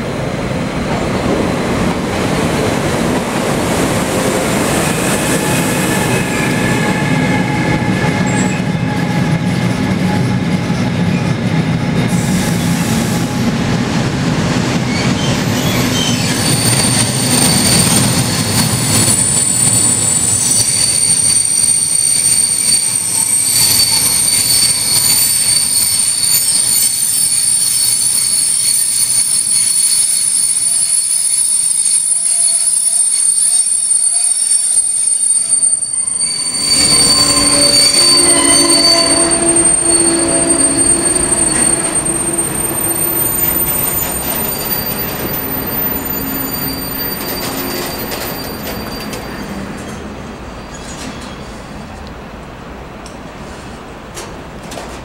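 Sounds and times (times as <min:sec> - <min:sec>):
freight train rumbling past: 0:00.0 - 0:29.6, 0:32.2 - 0:55.0
train wheels squealing: 0:04.1 - 0:11.4, 0:14.6 - 0:51.9.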